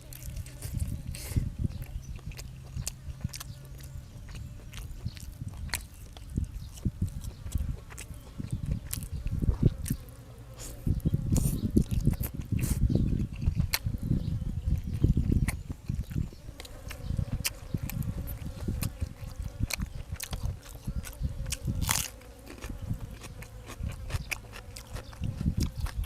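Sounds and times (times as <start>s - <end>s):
person biting and chewing food: 0.0s - 26.0s.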